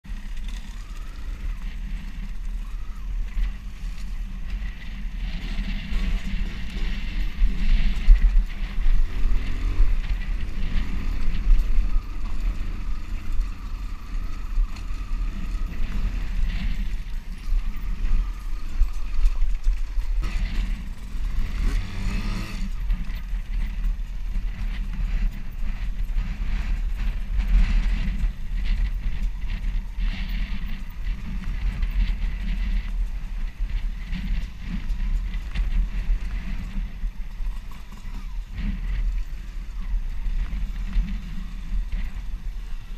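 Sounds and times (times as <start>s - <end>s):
deep rumble: 0.0s - 42.9s
motocross bike engine revving: 0.0s - 42.9s.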